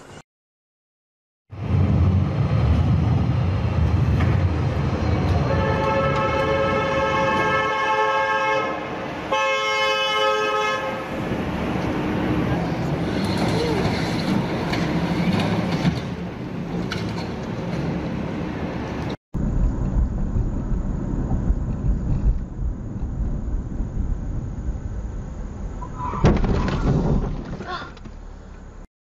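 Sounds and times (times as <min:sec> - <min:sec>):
car road rumble: 0:01.5 - 0:28.9
street traffic: 0:01.5 - 0:28.9.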